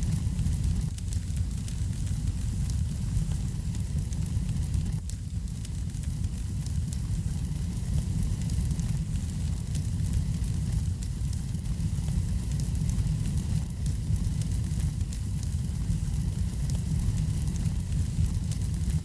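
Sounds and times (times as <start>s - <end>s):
fire flames rumbling: 0.0s - 19.0s
wood fire crackling: 0.0s - 19.0s.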